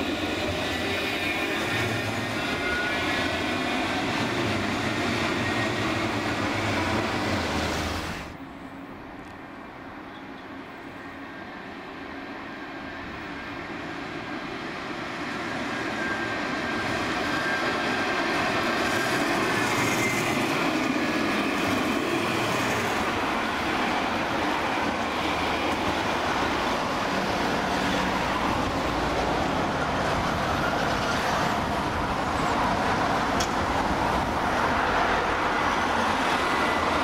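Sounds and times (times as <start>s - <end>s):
road traffic: 0.0s - 37.0s
tram rolling hum: 0.0s - 37.0s.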